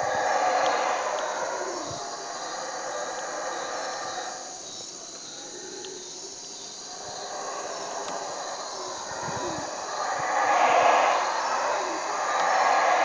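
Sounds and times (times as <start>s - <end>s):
howler monkeys roaring: 0.0s - 13.0s.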